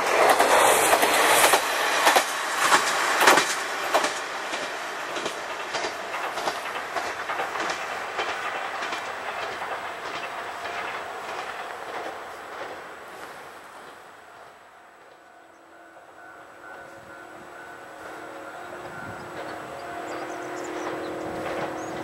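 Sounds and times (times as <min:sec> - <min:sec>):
wheels clacking over rail joints: 0:00.0 - 0:14.1, 0:18.0 - 0:22.0
diesel railcar running past: 0:00.0 - 0:22.0.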